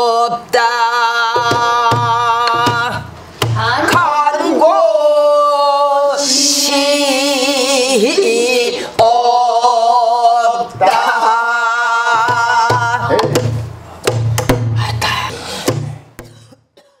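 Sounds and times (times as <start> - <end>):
woman singing with vibrato: 0.0 - 13.7.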